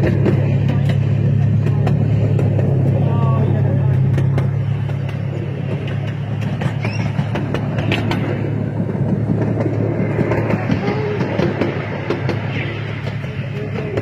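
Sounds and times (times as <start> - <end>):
train rumble: 0.0 - 14.0
wheels clicking over rails: 0.0 - 14.0.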